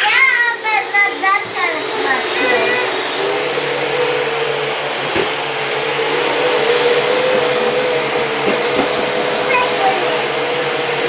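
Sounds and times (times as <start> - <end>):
quadcopter propellers whining: 0.0 - 11.0.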